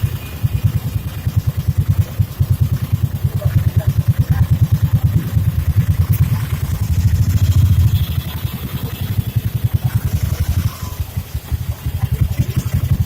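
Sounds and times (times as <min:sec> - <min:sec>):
rickshaw rumbling in motion: 0:00.0 - 0:13.0.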